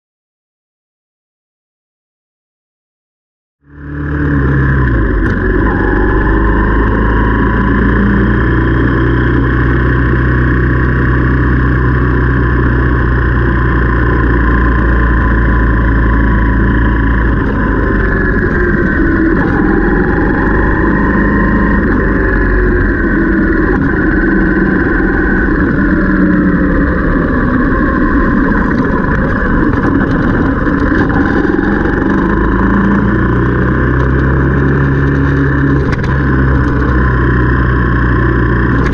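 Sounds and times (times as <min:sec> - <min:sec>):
motorcycle engine running: 0:03.6 - 0:38.9.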